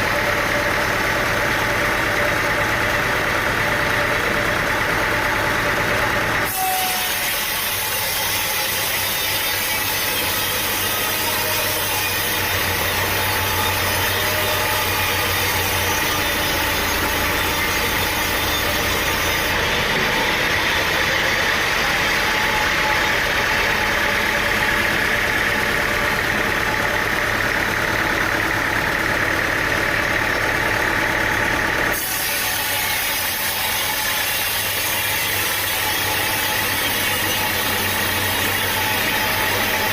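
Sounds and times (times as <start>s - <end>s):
sawmill engine whining: 0.0s - 39.9s.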